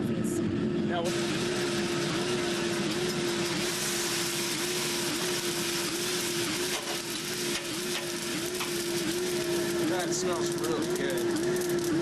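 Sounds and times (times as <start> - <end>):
roaster hum: 0.0 - 12.0
coffee roaster air rushing: 0.9 - 12.0.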